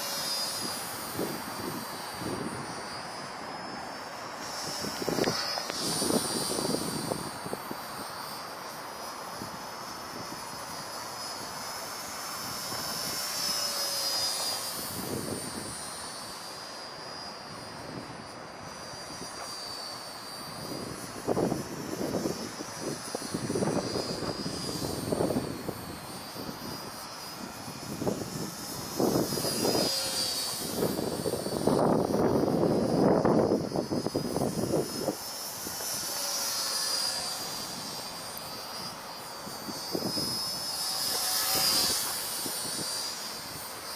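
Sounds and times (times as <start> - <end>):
model plane motors whining: 0.0 - 43.9.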